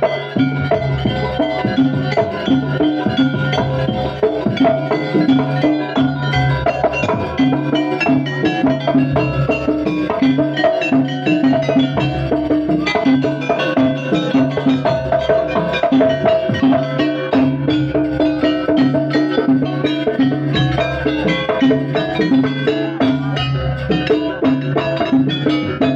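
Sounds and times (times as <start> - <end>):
gamelan music: 0.0 - 25.9.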